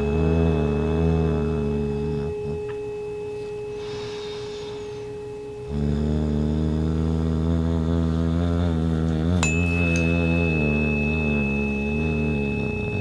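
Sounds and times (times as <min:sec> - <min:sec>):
low humming drone: 0:00.0 - 0:13.0
tuning fork ringing tone: 0:00.0 - 0:13.0.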